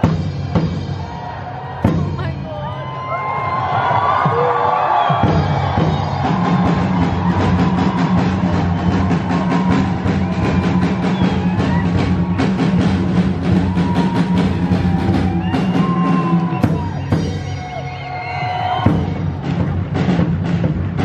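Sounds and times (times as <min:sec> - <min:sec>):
driving drum beat: 0:00.0 - 0:21.0.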